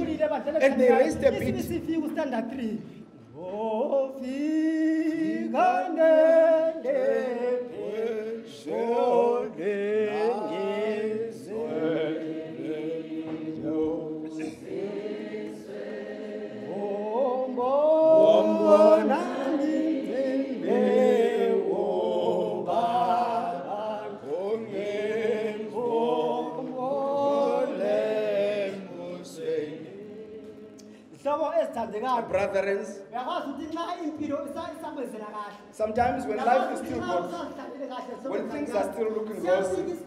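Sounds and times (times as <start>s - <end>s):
congregation singing a hymn: 3.1s - 31.3s, 35.7s - 40.0s.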